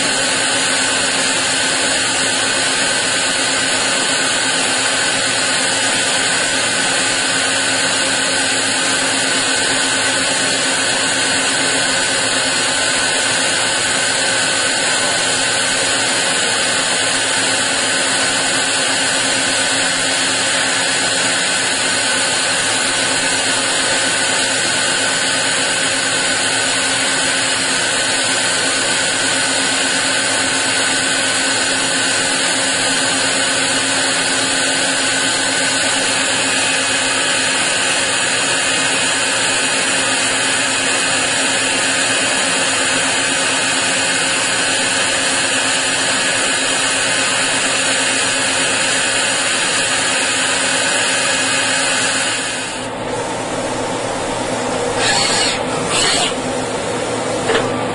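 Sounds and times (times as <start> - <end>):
milling machine cutting metal: 0.0 - 57.9.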